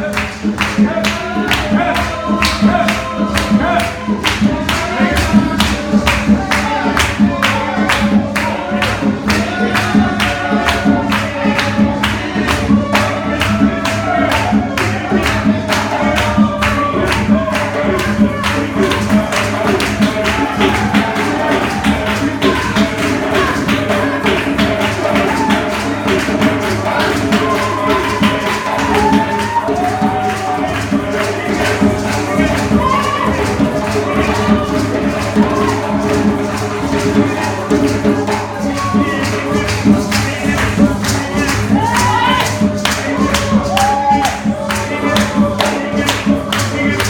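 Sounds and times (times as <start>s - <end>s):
fast percussion beat: 0.0s - 47.0s
tambourine shaking: 0.0s - 47.0s
voices singing gospel: 0.0s - 47.0s.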